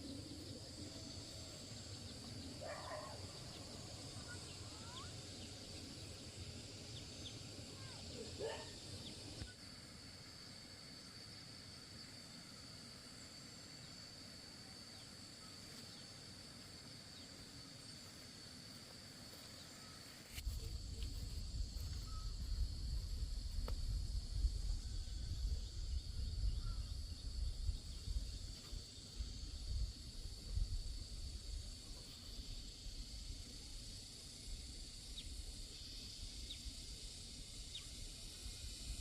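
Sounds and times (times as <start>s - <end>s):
high-pitched insect buzz: 0.0s - 39.0s.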